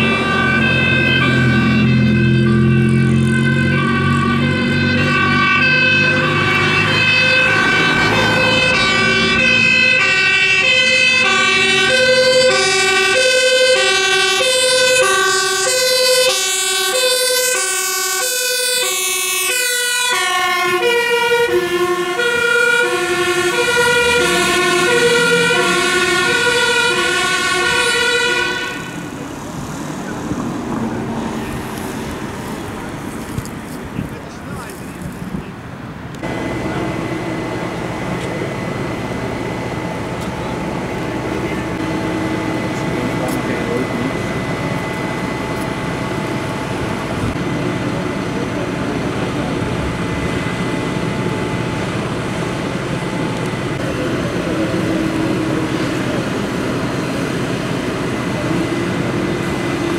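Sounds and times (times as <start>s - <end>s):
two-tone emergency siren: 0.0s - 29.2s, 36.2s - 59.9s.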